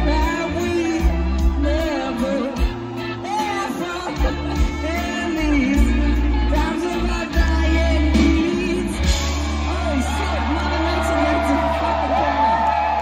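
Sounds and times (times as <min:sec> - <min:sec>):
heavy bass: 0:00.0 - 0:03.3, 0:04.0 - 0:12.5
person singing: 0:00.0 - 0:11.8
guitars: 0:00.0 - 0:13.0.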